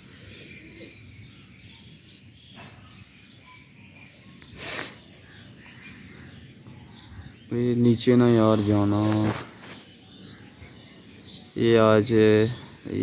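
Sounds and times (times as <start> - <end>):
faint bird chirps: 0.0 - 13.0
outdoor background noise: 0.0 - 13.0.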